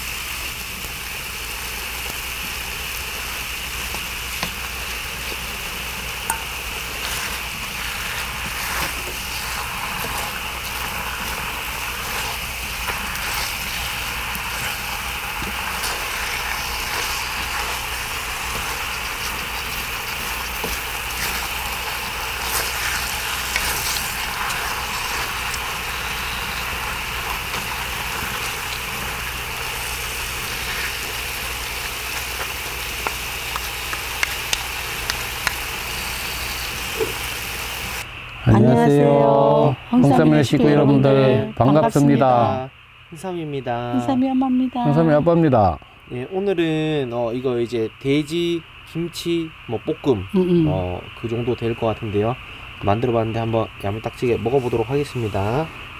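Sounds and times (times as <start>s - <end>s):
steady low hum: 0.0s - 55.9s
stir-fry sizzling: 0.0s - 55.9s.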